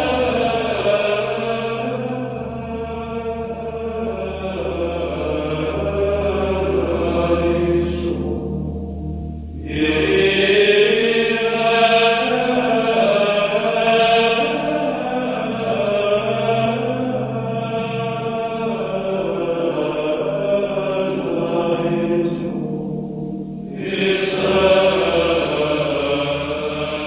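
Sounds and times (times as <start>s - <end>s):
choir singing sacred chant: 0.0s - 8.8s, 9.5s - 27.0s.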